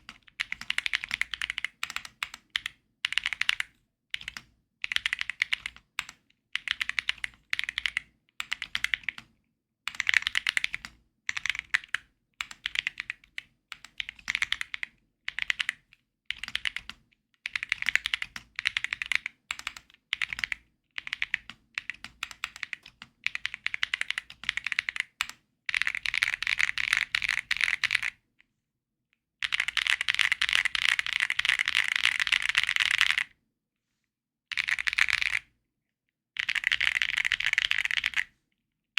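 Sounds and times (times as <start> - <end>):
mechanical keyboard typing: 0.0 - 9.3, 9.9 - 28.2, 29.4 - 33.3, 34.5 - 35.5, 36.4 - 38.3.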